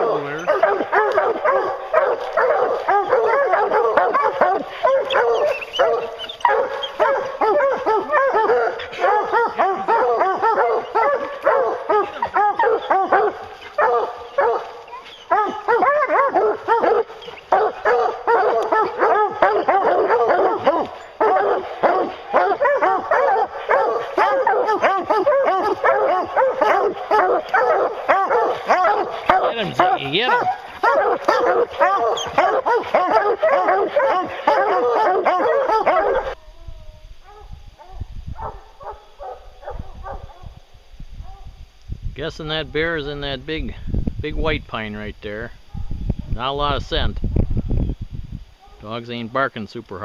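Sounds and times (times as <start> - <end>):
hounds baying and barking: 0.0 - 36.4, 37.2 - 41.6, 45.6 - 46.4, 48.5 - 49.5.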